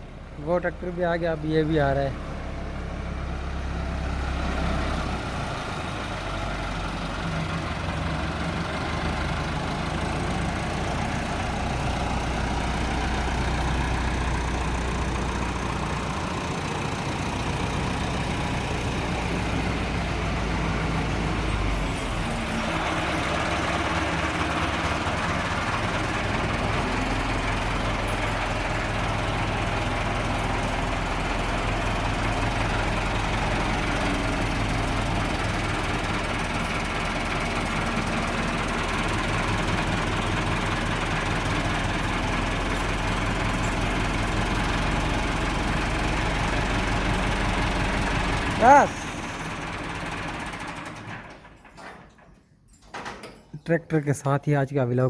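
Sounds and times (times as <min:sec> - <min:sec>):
diesel tractor engine running: 0:00.0 - 0:52.3.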